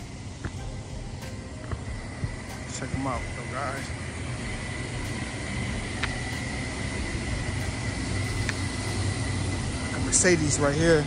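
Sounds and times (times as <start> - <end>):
high whine: 0.0 - 11.0
low mechanical hum: 0.0 - 11.0.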